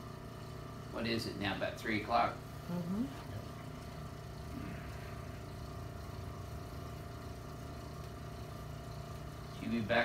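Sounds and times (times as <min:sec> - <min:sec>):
low mechanical motor hum: 0:00.0 - 0:10.0.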